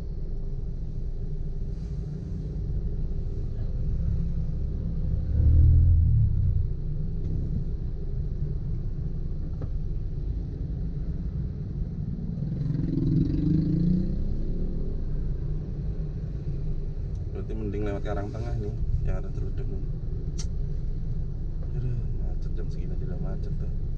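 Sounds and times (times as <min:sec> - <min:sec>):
vehicle engine and road rumble: 0:00.0 - 0:23.9.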